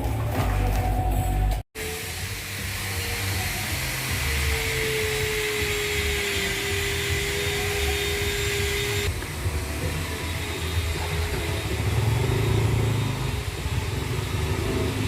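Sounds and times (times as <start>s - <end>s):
low motor hum: 0.0s - 15.0s
vacuum pump whine and hiss: 1.8s - 15.0s.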